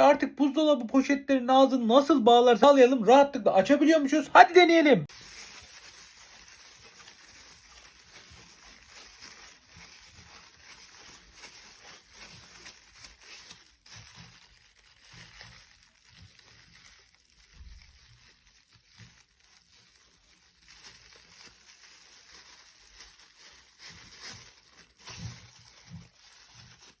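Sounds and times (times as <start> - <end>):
plastic bag rustling and crinkling: 0.0 - 27.0.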